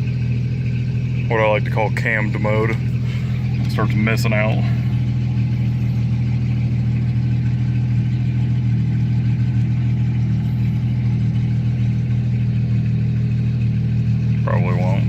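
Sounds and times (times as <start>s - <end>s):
engine idling with loud exhaust: 0.0s - 15.0s.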